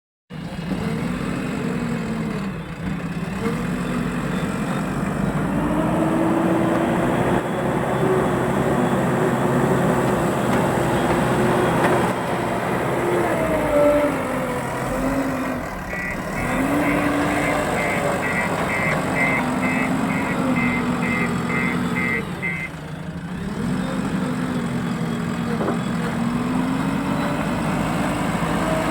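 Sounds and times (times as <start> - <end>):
heavy machine engine revving: 0.3 - 28.9.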